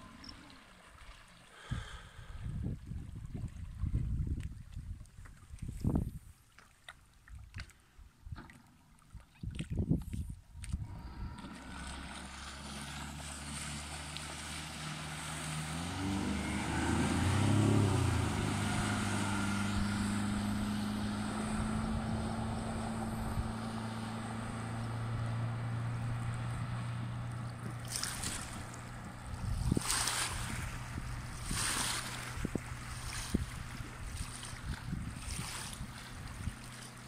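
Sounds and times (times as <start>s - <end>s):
outboard motor running: 0.0s - 6.2s, 9.5s - 37.0s.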